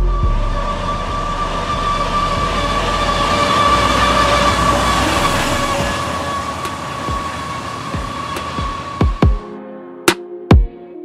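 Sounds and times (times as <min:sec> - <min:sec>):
large machine running: 0:00.0 - 0:09.4.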